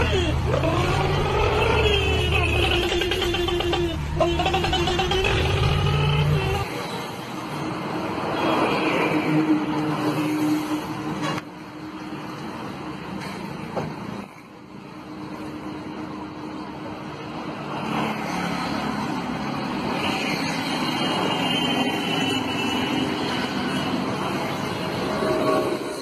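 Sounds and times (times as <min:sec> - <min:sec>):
traffic running by: 0:00.0 - 0:26.0.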